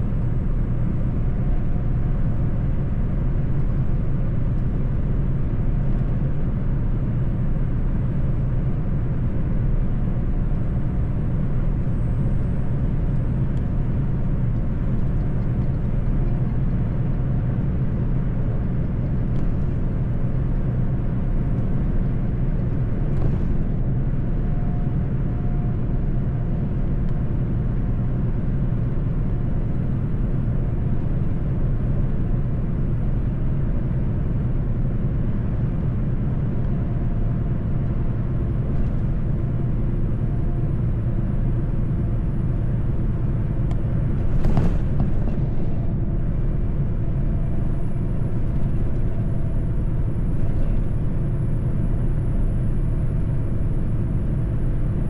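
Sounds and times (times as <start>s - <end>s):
road rumble: 0.0s - 55.0s
truck engine drone: 0.0s - 55.0s.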